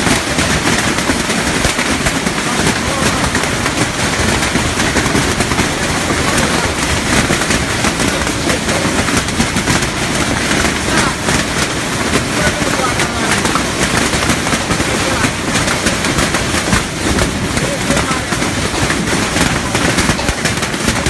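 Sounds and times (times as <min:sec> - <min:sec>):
hailstones clattering: 0:00.0 - 0:21.0.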